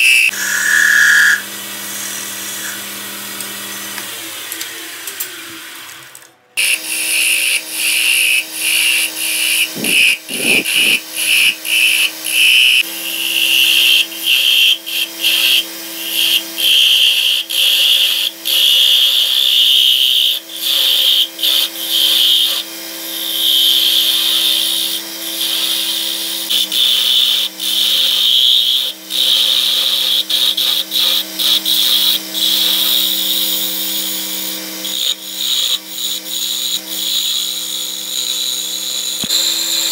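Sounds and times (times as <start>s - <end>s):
turning tool cutting wood: 0.0s - 39.9s
wood lathe motor hum: 0.1s - 39.9s.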